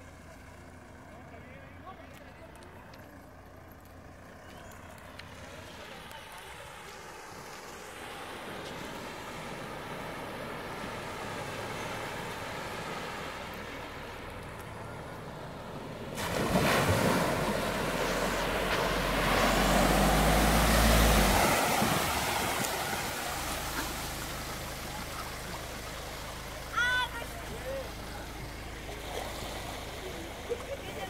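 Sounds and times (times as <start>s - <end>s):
car engine humming: 0.0s - 31.0s
water spray and splashing: 5.0s - 31.0s.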